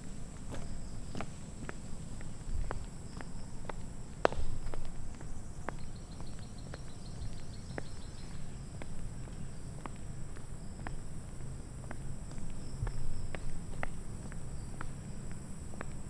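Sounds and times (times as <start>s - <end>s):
footsteps walking: 0.0s - 16.0s.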